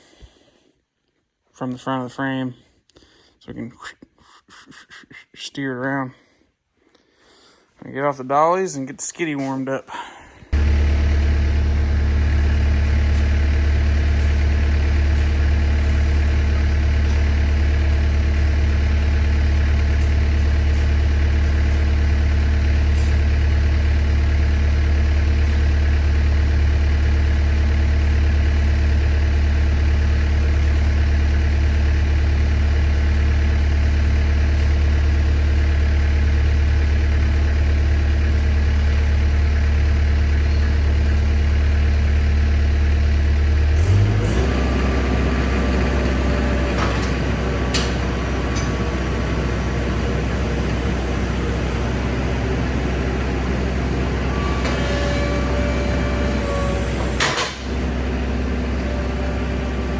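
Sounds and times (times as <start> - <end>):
skid steer engine idling: 9.4 - 59.9.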